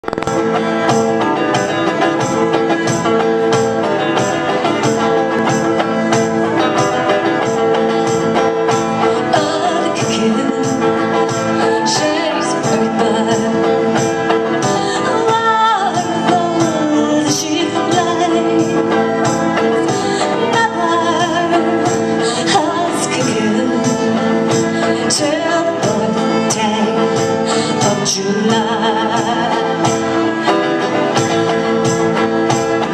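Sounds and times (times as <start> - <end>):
fiddle and resonator guitar tune: 0.0 - 32.9.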